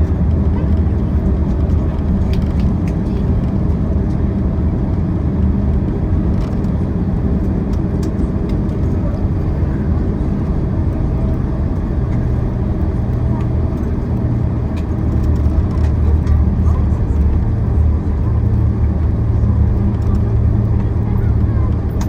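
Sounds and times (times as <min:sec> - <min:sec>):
low rumble of engines and wheels: 0:00.0 - 0:22.0.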